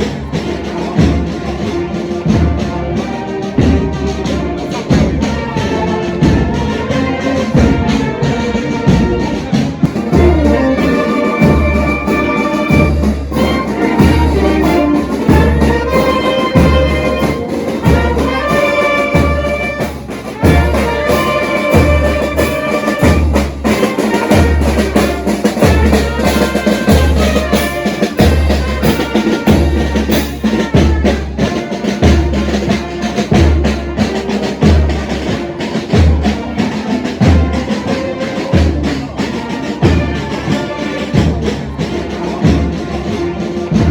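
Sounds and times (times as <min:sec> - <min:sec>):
brass band playing: 0:00.0 - 0:43.9.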